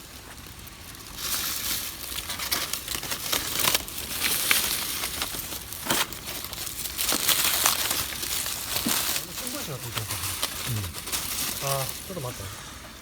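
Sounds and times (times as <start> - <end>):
newspaper crumpling and tearing: 0.0 - 12.5.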